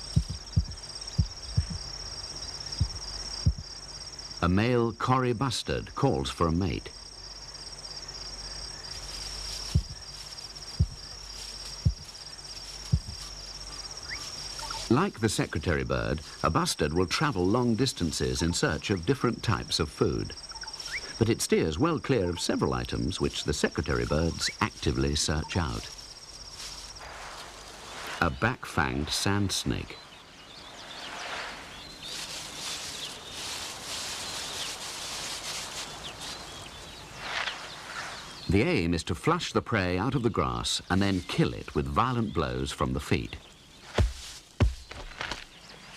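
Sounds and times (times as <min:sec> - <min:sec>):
dry grass rustling: 0:00.0 - 0:04.4, 0:06.9 - 0:38.6, 0:40.5 - 0:45.9
crickets trilling: 0:00.0 - 0:45.9
small birds chirping: 0:00.0 - 0:45.9.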